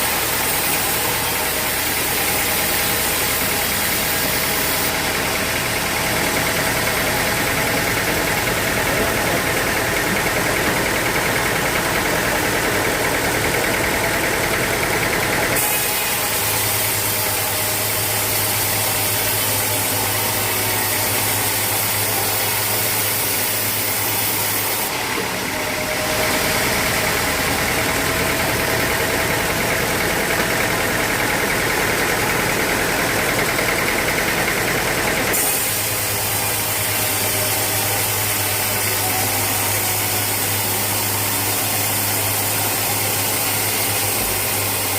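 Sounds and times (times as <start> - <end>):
sawmill machinery running: 0.0 - 44.9.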